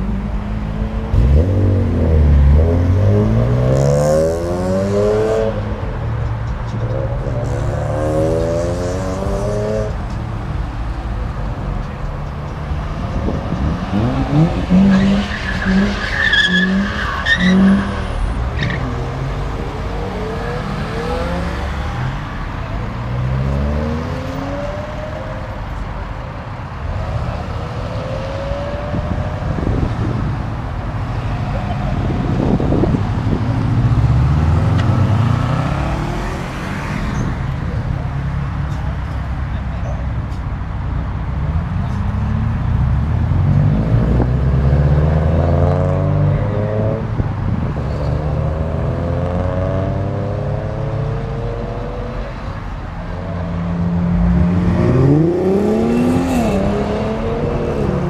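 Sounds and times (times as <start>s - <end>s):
cars revving and accelerating: 0.0s - 58.0s.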